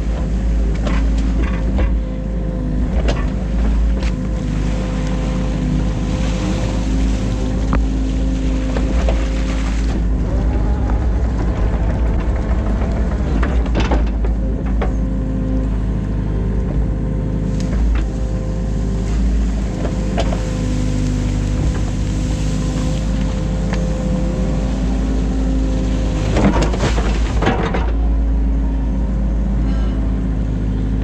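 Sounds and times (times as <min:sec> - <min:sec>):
excavator engine under load: 0:00.0 - 0:31.0.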